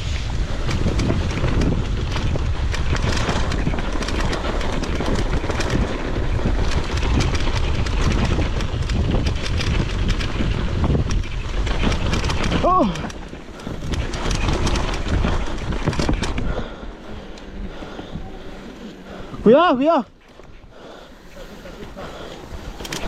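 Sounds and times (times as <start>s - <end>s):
small crackles: 0.0s - 19.4s, 20.2s - 23.0s
wind buffeting microphone: 0.0s - 23.0s.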